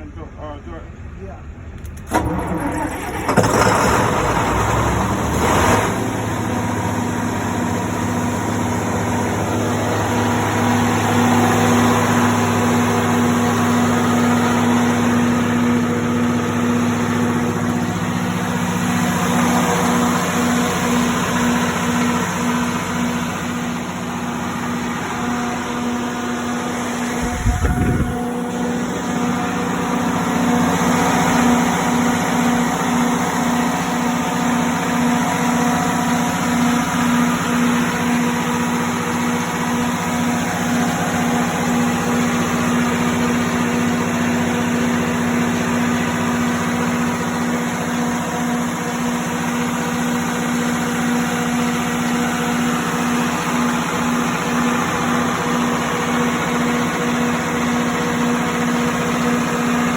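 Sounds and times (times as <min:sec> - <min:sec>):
diesel generator engine running: 0:00.0 - 0:59.9.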